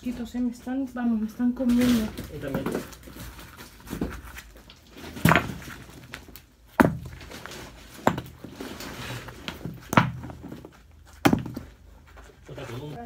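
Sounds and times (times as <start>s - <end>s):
objects knocking and thumping: 1.6s - 12.5s.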